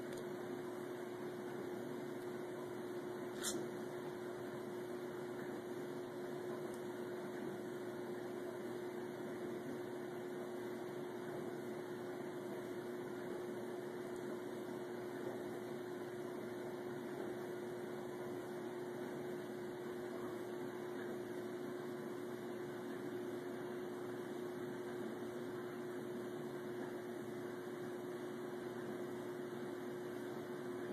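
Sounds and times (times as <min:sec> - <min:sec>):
steady hum and hiss: 0:00.0 - 0:30.9.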